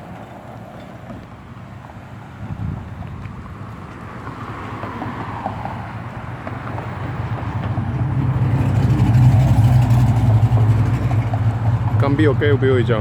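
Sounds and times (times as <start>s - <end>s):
engine approaching: 0.0s - 13.0s.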